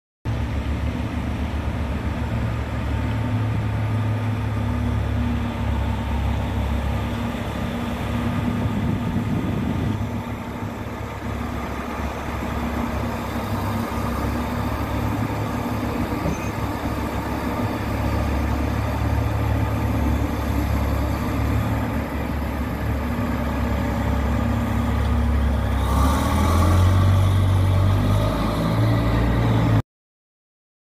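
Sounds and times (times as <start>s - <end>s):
truck diesel engine running: 0.3s - 29.8s.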